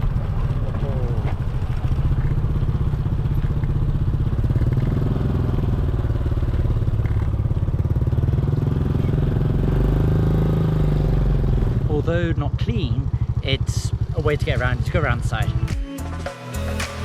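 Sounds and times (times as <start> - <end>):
motorbike engine running: 0.0 - 15.8.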